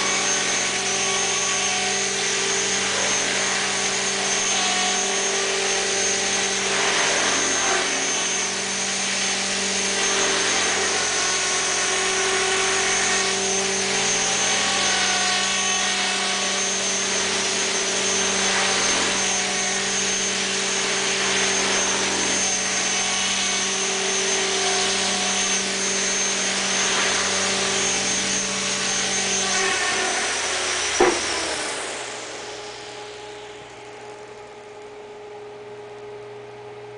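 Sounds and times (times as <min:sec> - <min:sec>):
rotor blades whirring: 0:00.0 - 0:34.5
high-pitched motor whine: 0:00.0 - 0:36.9.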